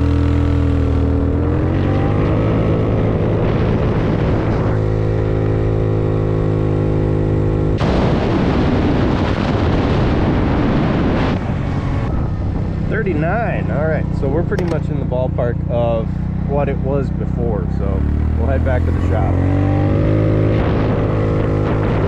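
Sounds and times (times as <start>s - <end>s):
scooter engine at full throttle: 0.0s - 22.0s
wind buffeting on microphone: 0.9s - 16.5s, 19.0s - 22.0s.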